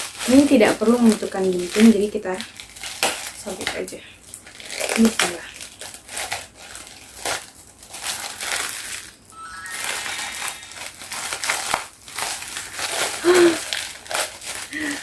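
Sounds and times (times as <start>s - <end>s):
plastic packaging tearing and crinkling: 0.0s - 15.0s.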